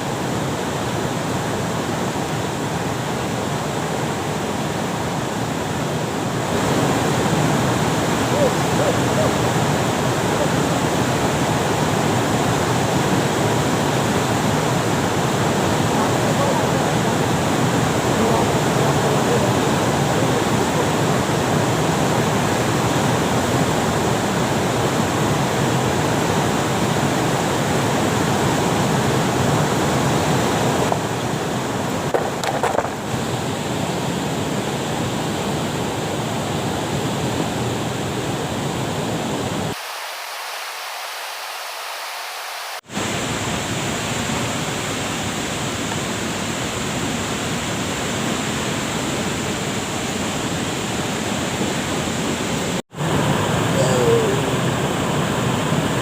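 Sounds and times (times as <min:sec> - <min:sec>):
waterfall roar: 0:00.0 - 0:56.0.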